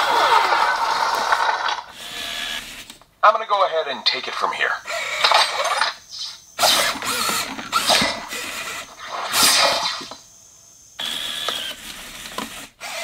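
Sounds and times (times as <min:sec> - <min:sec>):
servo motors whirring: 0:00.2 - 0:03.0, 0:04.8 - 0:13.0.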